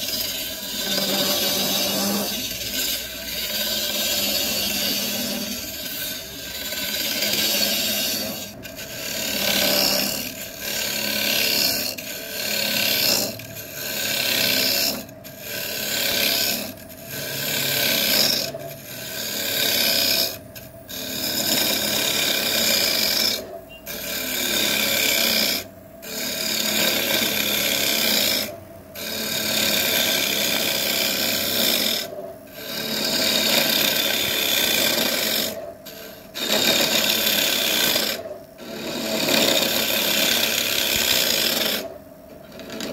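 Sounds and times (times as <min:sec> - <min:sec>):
tool scraping spinning wood: 0:00.0 - 0:42.9.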